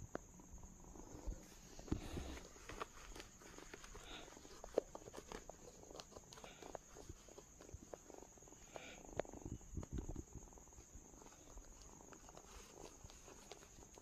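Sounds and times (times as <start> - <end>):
crickets trilling: 0.0 - 14.0
handling clicks and rustles: 0.0 - 14.0.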